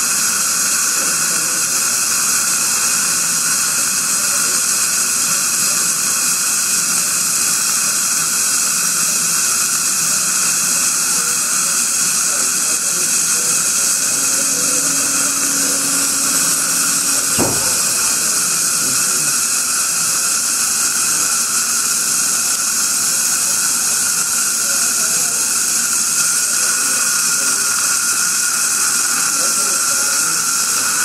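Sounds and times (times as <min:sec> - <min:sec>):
dental equipment hiss: 0:00.0 - 0:31.0.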